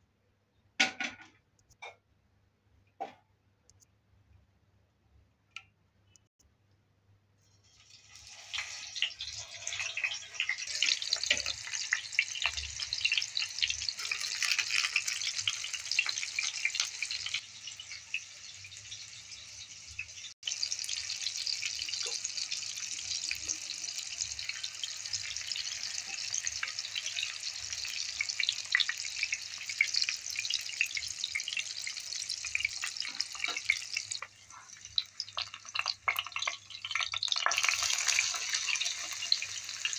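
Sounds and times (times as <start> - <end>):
eggplant frying in hot oil: 7.6 - 39.9.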